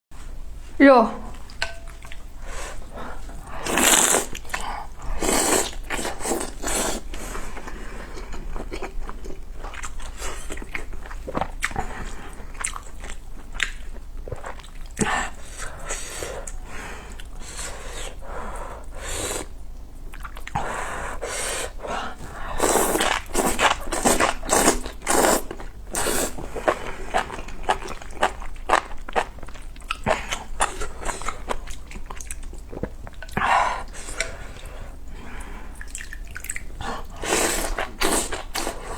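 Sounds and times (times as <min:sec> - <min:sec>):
person chewing food: 0:01.5 - 0:18.2, 0:20.1 - 0:38.9.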